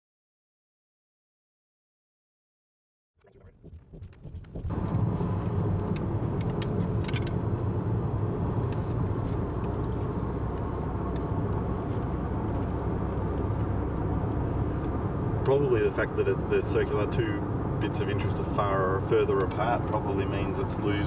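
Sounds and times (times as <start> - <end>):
car cabin rumble: 3.2 - 21.0.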